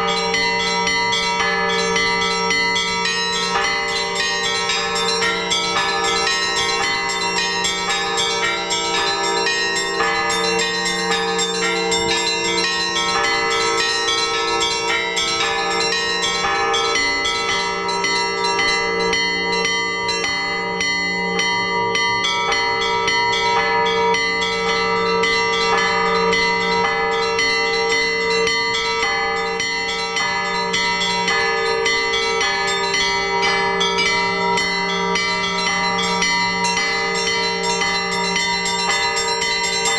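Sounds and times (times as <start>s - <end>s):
large bells ringing: 0.0s - 39.9s
small church bells ringing quickly: 0.0s - 39.9s.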